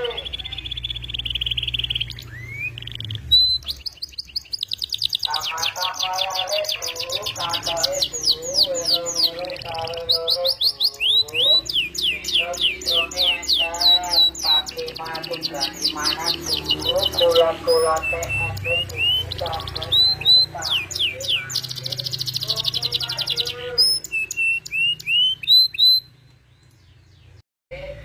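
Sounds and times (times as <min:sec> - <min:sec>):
canary singing trills: 0:00.0 - 0:28.0.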